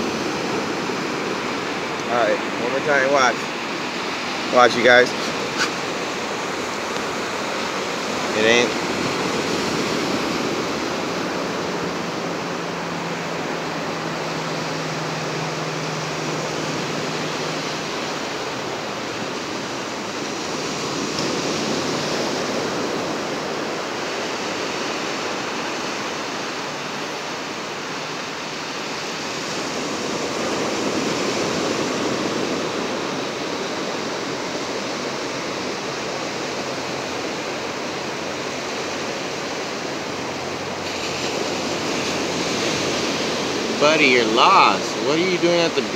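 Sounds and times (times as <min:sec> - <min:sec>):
ocean surf washing onto beach: 0:00.0 - 0:45.9.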